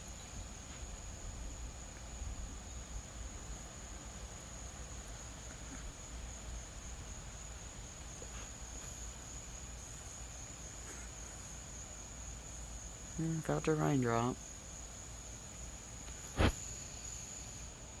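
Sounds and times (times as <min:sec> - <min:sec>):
night insects chorus: 0:00.0 - 0:18.0.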